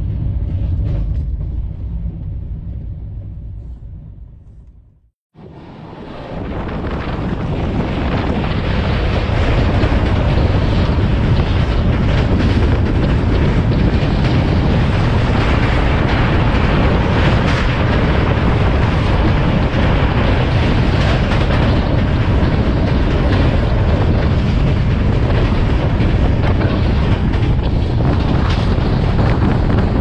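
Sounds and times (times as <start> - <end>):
train running rumble: 0.0 - 30.0
wind rushing over microphone: 5.3 - 30.0.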